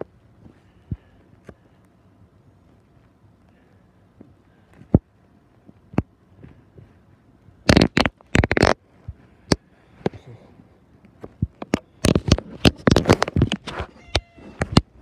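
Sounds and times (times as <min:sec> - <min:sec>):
rustling and crackling on fabric: 0:00.0 - 0:15.0.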